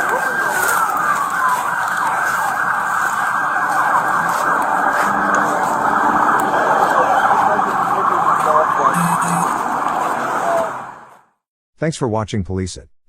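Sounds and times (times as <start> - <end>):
emergency sirens wailing: 0.0 - 11.4.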